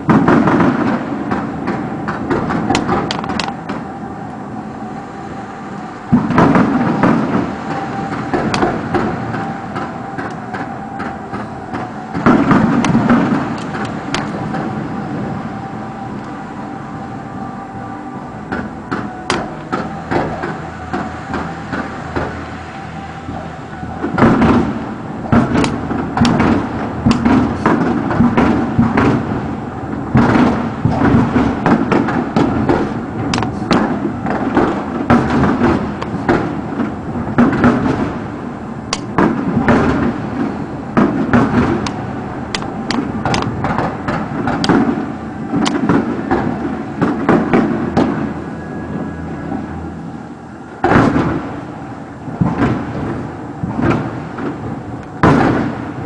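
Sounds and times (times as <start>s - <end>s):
continuous rumble: 0.0s - 56.0s
fireworks bangs: 0.0s - 56.0s.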